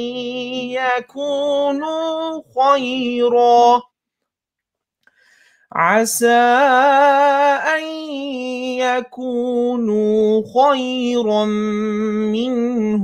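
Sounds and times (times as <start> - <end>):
man reciting melodically: 0.0 - 4.0, 5.7 - 13.0.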